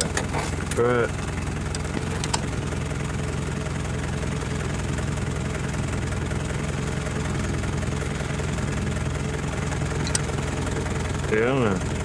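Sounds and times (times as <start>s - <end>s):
water pump motor droning: 0.0s - 12.0s.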